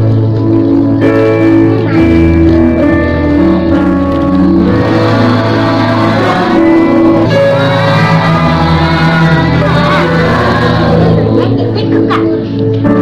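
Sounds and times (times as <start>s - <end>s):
held chords over steady bass: 0.0s - 12.0s.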